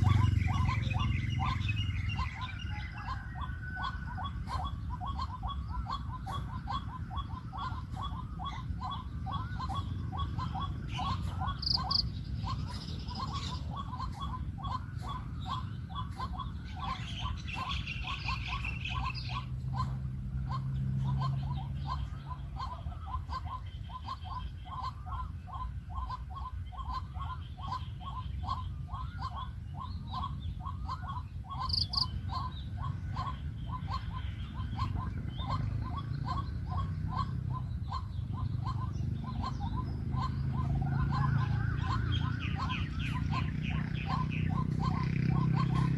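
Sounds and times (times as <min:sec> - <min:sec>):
higher bird chirps: 0:00.0 - 0:45.9
waterhen calling repeated notes: 0:00.0 - 0:45.9.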